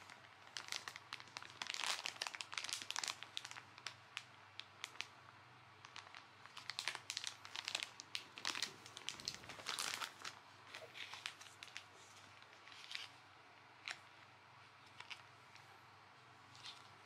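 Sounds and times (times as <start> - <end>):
plastic pouches crinkling: 0.0 - 5.1, 5.8 - 13.2, 14.8 - 15.7, 16.4 - 17.0.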